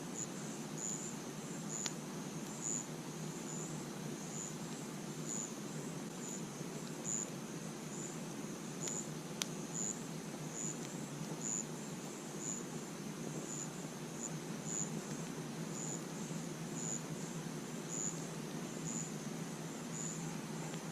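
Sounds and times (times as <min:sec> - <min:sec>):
campfire rushing and crackling: 0:00.0 - 0:20.9
cricket chirping: 0:00.0 - 0:20.9.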